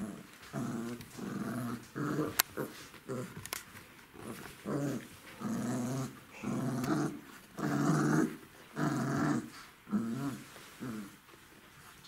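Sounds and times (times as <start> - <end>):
puppies growling: 0.0 - 3.4, 4.1 - 11.2.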